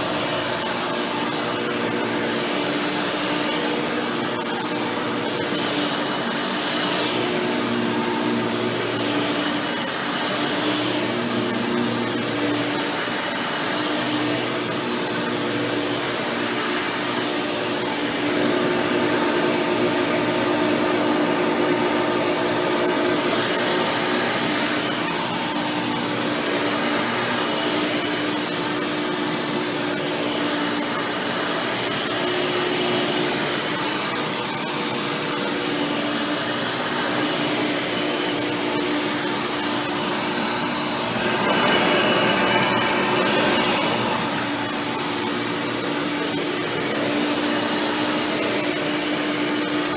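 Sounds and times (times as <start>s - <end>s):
upright vacuum cleaner running: 0.0s - 49.9s.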